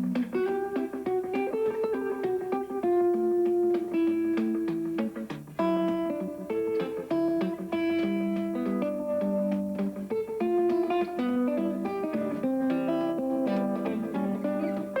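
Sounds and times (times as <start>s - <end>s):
solo fingerpicked guitar: 0.0s - 15.0s.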